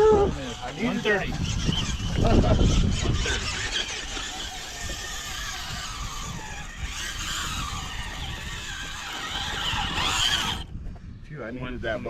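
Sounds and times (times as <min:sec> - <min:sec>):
off-road vehicle engine running: 0:00.0 - 0:10.7
wind buffeting microphone: 0:00.0 - 0:12.0.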